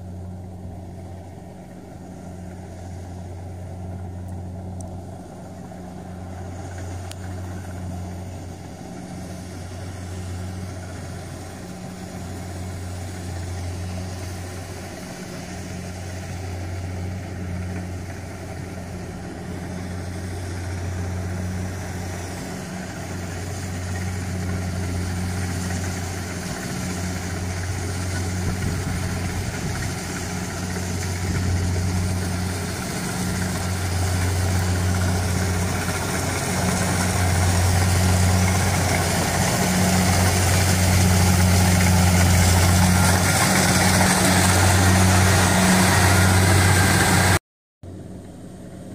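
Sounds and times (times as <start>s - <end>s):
harvester diesel engine running: 0.0s - 48.9s.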